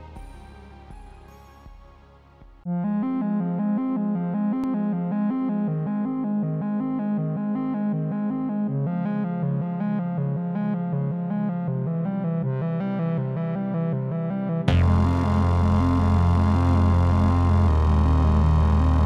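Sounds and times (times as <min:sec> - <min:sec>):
synthesizer music: 0:00.0 - 0:19.0.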